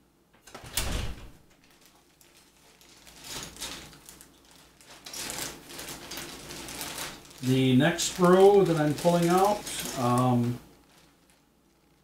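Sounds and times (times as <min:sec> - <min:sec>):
plastic bag crinkling: 0:01.5 - 0:12.0.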